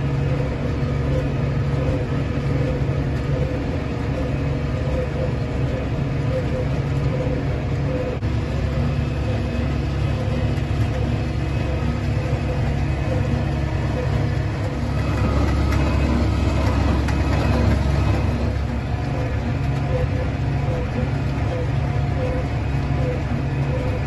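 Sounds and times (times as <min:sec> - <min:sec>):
low hum: 0:00.0 - 0:24.0
tractor engine running: 0:00.0 - 0:24.0.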